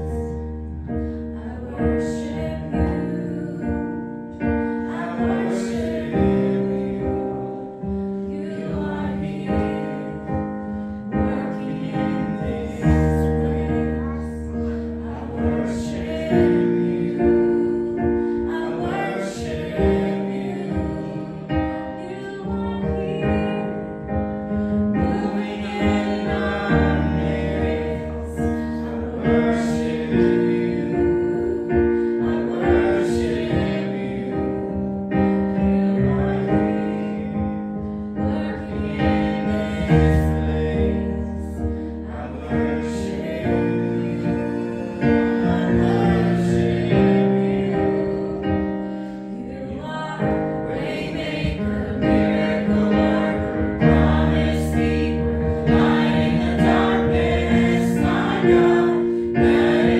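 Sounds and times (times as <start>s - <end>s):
slow worship music on piano: 0.0s - 59.9s.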